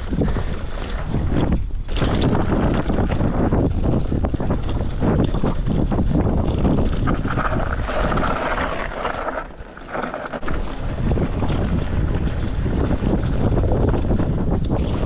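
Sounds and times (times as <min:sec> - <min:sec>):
bike rattling over rough trail: 0:00.0 - 0:15.0
wind buffeting microphone: 0:00.0 - 0:15.0.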